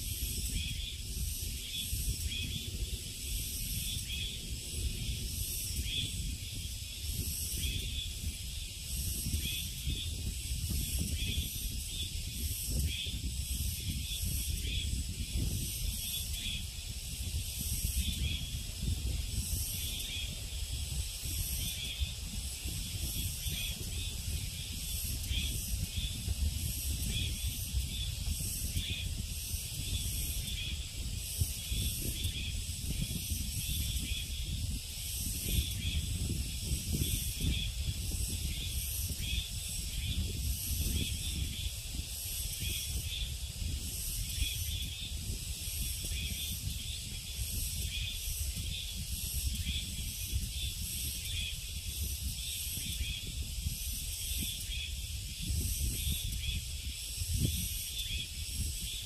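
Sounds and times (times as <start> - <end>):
high-pitched insect chorus: 0.0 - 59.0
wind rumble on microphone: 0.0 - 59.0.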